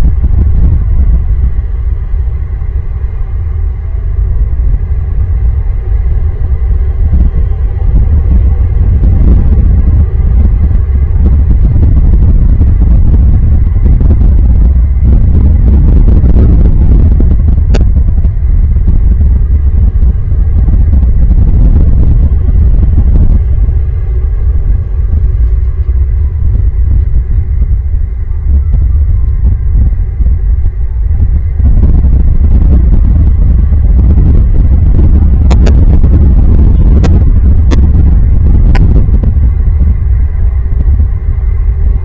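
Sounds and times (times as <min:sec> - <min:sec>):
loud low rumble: 0:00.0 - 0:42.0.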